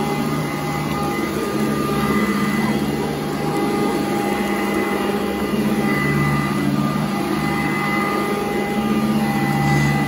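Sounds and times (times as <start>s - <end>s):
vacuum cleaner on carpet: 0.0s - 10.0s.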